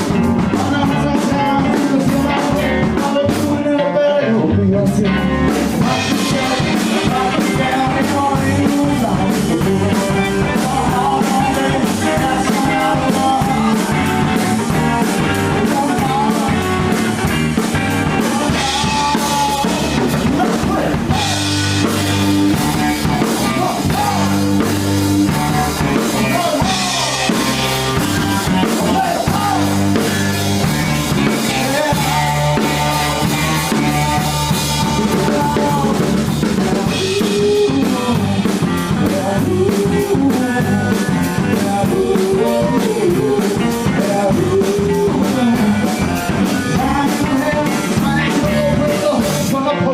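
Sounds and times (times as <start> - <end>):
drum kit beat: 0.0 - 3.8, 4.8 - 49.7
rock band playing live: 0.0 - 49.9.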